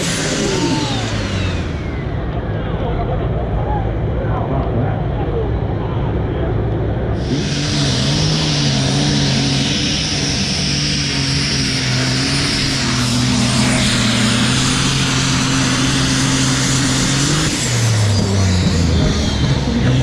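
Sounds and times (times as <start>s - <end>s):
heavy engine droning: 0.0s - 20.0s.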